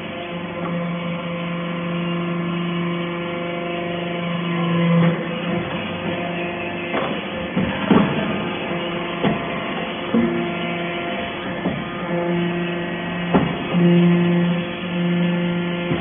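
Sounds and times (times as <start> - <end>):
hydraulic press pump drone: 0.0 - 16.0.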